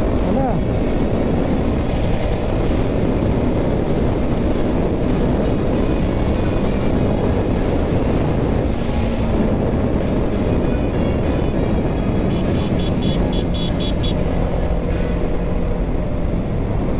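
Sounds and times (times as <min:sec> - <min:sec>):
motorcycle engine running: 0:00.0 - 0:16.9
wind rushing on microphone: 0:00.0 - 0:16.9.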